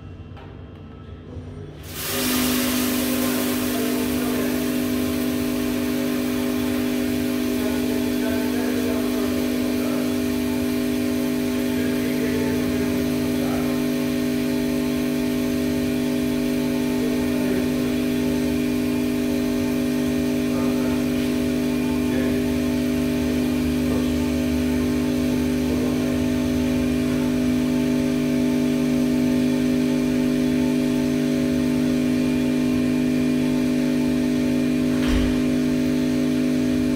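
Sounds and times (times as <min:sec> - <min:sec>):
machine hum with held tones: 0:00.0 - 0:36.9.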